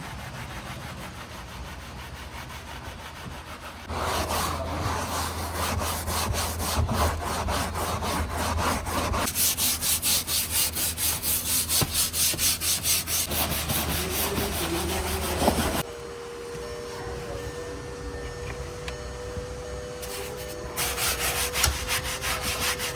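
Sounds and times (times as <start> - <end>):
brush scrubbing upholstery: 0.0 - 15.9, 20.0 - 22.9.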